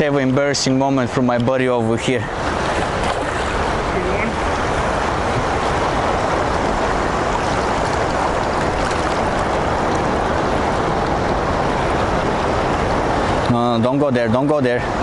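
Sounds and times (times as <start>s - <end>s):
fast river current rushing: 0.0s - 15.0s.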